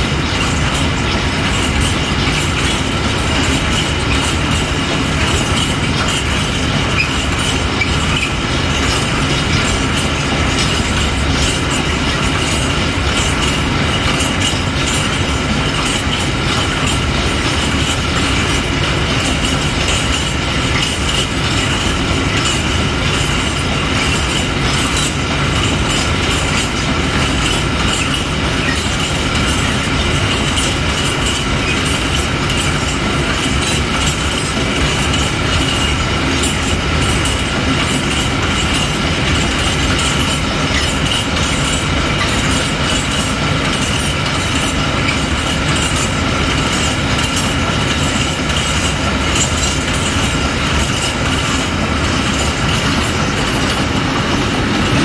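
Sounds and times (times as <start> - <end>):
freight train wheels clattering: 0.0 - 55.0
train rumble: 0.0 - 55.0.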